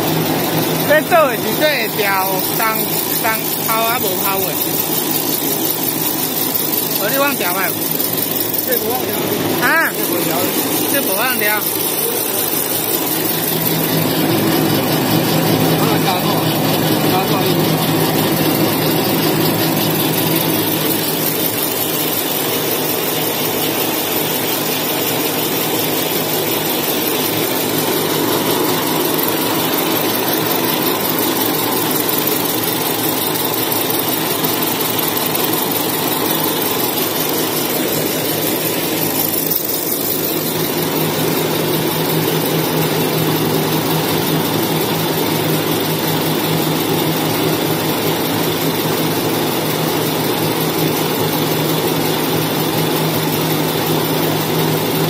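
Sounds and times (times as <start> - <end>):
machine mechanical drone: 0.0 - 55.0.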